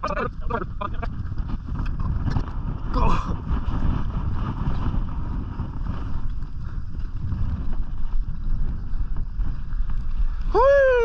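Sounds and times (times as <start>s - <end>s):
wind buffeting a microphone: 0.0s - 11.0s.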